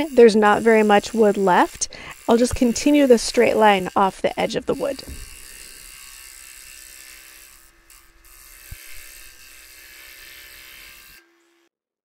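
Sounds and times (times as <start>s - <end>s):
scroll saw buzzing: 0.0s - 11.7s.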